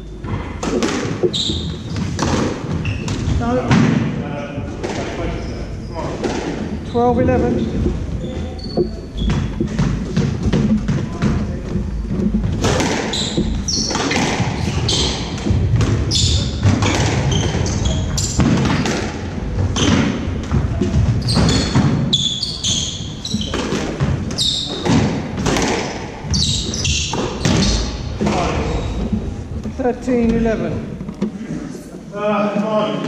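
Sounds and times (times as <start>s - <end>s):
shoes squeaking on wooden floor: 0.0s - 3.8s, 4.4s - 32.0s
squash ball hitting rackets and walls: 0.0s - 29.4s.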